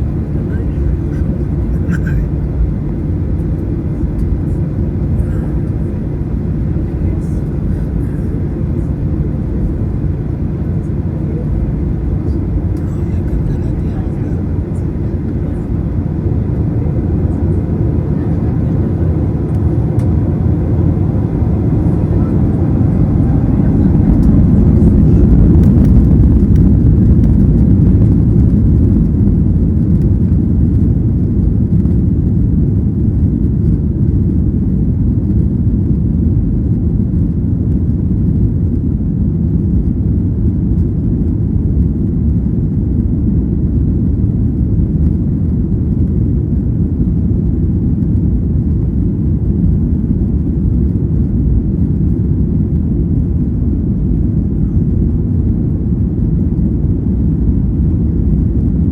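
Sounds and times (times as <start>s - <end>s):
jet engine cabin rumble: 0.0s - 58.9s.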